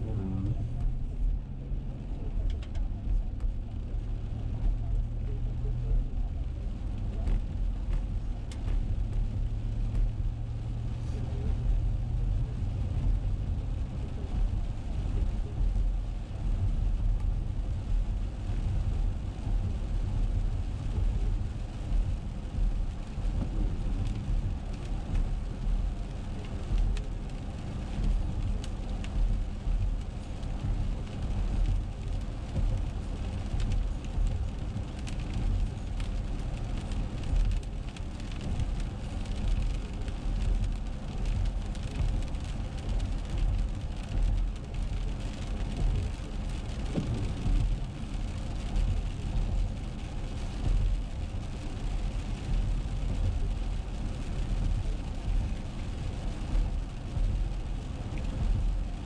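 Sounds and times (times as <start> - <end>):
raindrops tapping on windshield: 0.0 - 59.0
tyres and engine rumble: 0.0 - 59.0.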